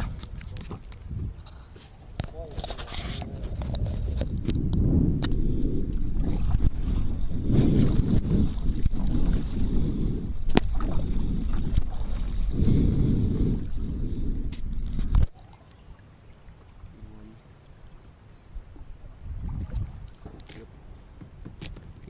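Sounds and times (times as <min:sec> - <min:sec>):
water sloshing from paddling: 0:00.0 - 0:22.0.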